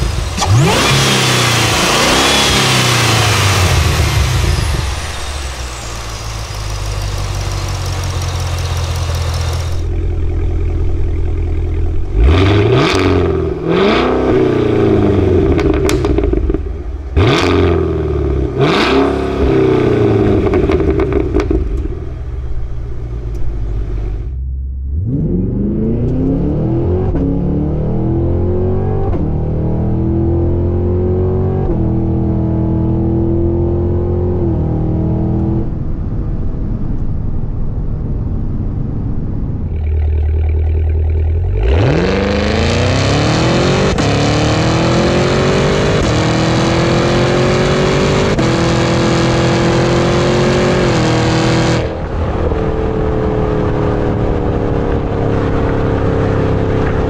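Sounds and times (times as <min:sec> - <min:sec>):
car engine accelerating hard: 0:00.0 - 0:36.1, 0:38.1 - 0:57.0.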